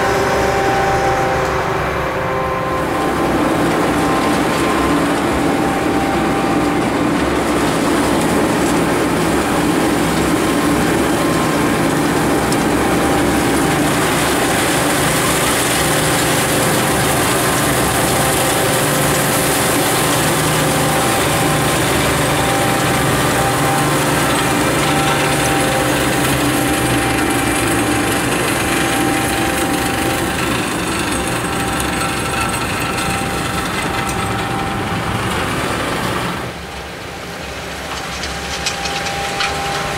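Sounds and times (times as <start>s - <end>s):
snow blower mechanical drone: 0.0s - 39.9s.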